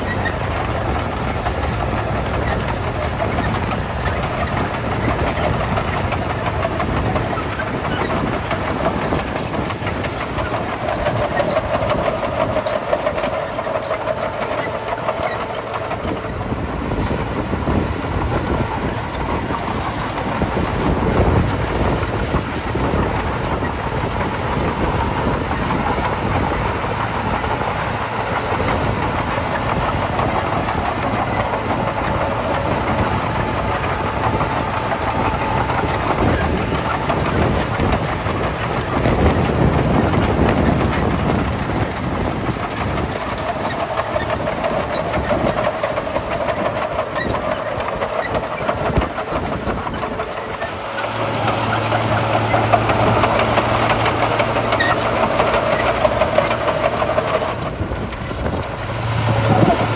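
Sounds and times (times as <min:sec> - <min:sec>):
bulldozer working: 0:00.0 - 0:59.9.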